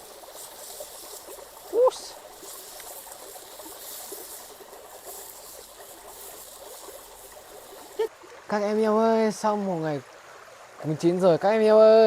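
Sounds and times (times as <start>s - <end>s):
stream water running: 0.0s - 12.0s.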